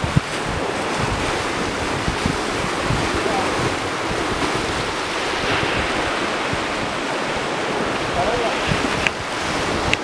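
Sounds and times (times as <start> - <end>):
waves breaking over rocks: 0.0 - 10.0
wind buffeting microphone: 0.0 - 10.0.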